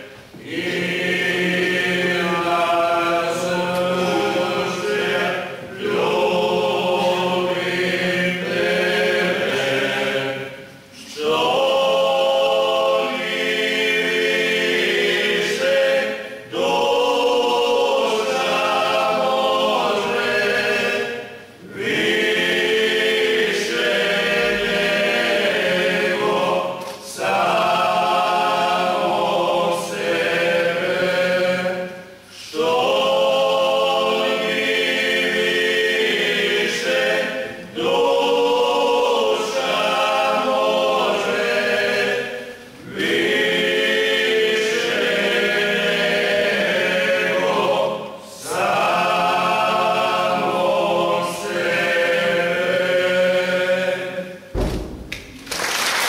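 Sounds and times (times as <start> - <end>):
male choir singing a cappella: 0.0 - 54.5.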